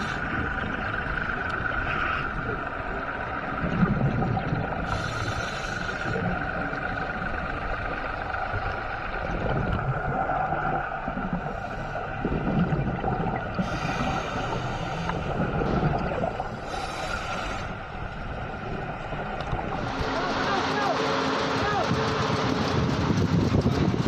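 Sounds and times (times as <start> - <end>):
faint hum: 0.0 - 24.0
muffled underwater rushing: 0.0 - 24.0.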